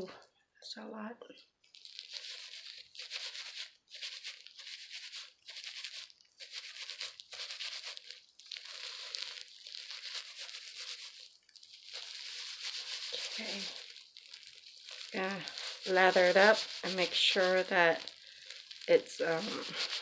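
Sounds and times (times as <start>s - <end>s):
plastic gloves rustling in wet hair: 1.6s - 20.0s.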